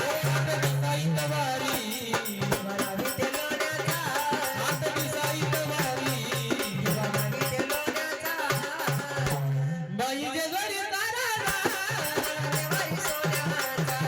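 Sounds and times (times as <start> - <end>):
rhythmic percussion: 0.0 - 9.7, 11.1 - 14.0.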